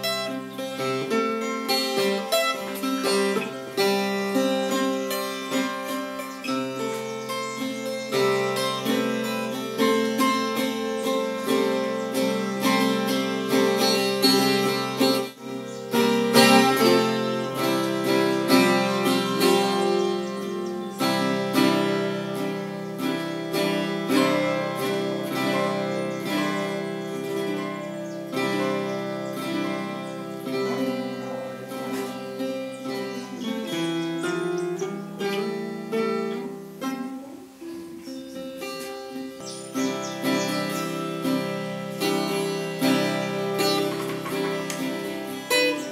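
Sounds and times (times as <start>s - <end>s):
acoustic guitar music: 0.0s - 45.9s.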